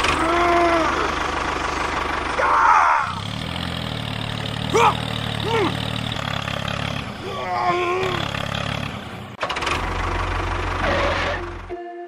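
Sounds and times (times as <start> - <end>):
tractor engine running: 0.0 - 11.8.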